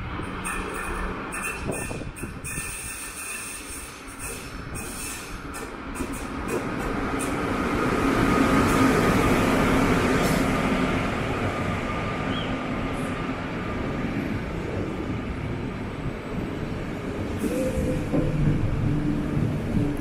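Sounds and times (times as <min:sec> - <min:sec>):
train rolling on tracks: 0:00.0 - 0:20.0.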